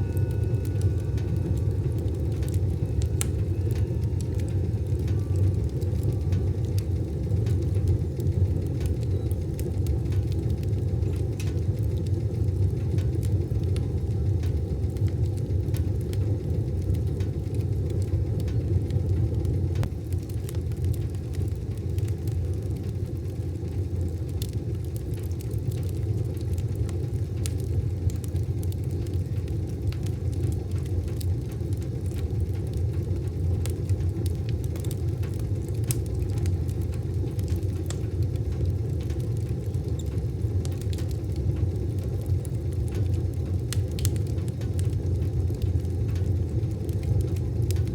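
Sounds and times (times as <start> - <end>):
faint fire crackles: 0.0 - 47.9
wood stove fire rumbling: 0.0 - 47.9.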